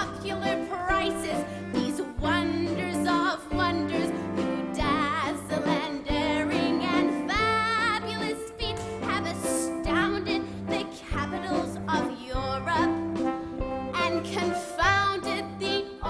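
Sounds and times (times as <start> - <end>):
band accompaniment: 0.0 - 16.0
person singing with vibrato: 0.0 - 16.0.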